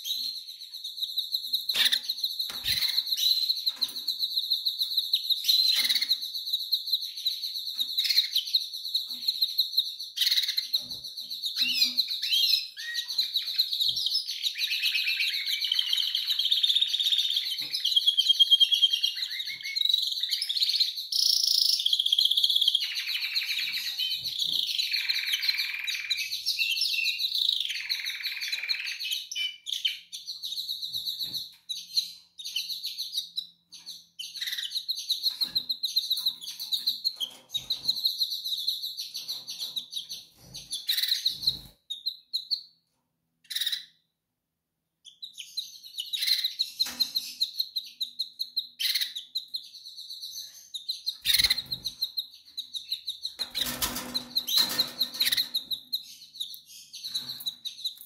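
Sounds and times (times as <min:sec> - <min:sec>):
canaries chirping and trilling: 0:00.0 - 0:42.8, 0:43.4 - 0:44.1, 0:45.0 - 0:58.0.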